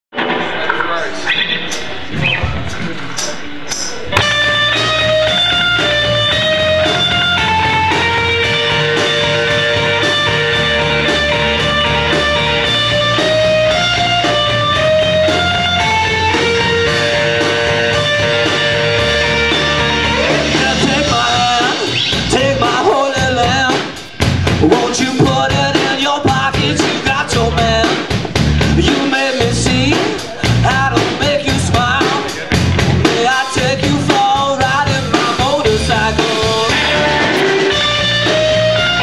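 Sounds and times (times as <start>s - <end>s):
rock band playing live: 1.7s - 39.0s.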